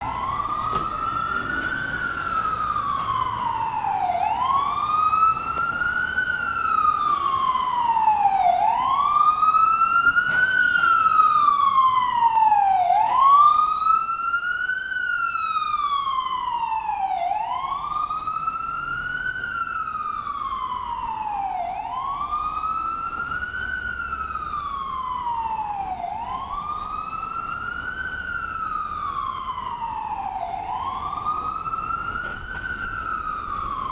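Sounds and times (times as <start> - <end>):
ambulance siren wailing: 0.0 - 33.9.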